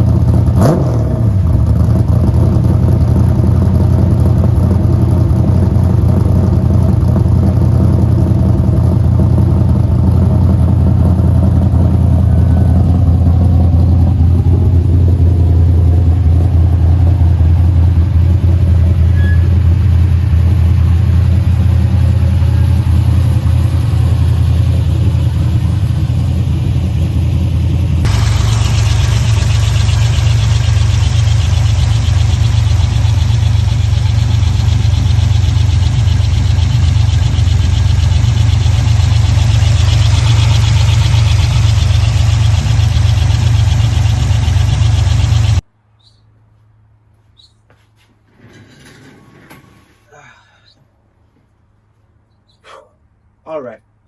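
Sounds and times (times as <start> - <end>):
car engine idling: 0.0 - 45.7.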